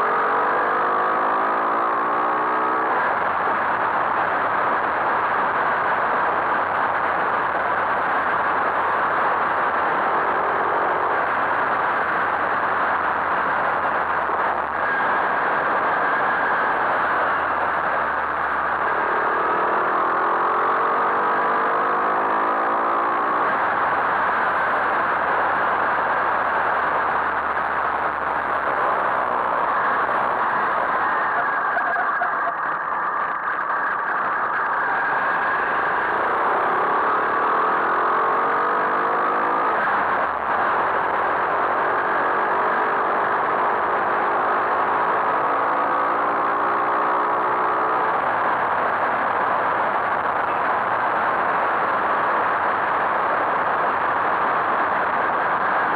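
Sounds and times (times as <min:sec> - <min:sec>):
motorcycle engine accelerating: 0:00.0 - 0:50.2
rush of riding wind: 0:00.0 - 0:55.9.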